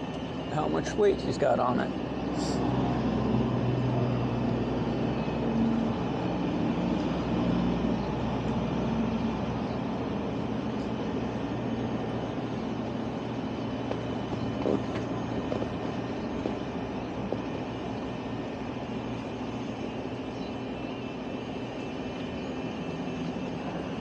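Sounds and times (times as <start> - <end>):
large engine droning: 0.0 - 24.0.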